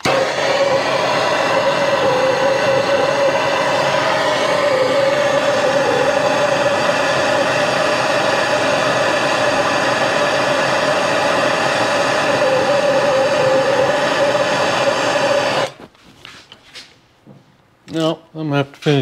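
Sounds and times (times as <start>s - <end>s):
gas torch hissing: 0.0s - 15.9s.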